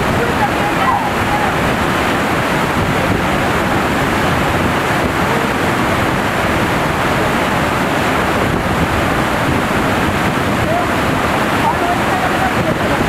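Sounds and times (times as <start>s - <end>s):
waterfall crashing over boulders: 0.0s - 13.0s.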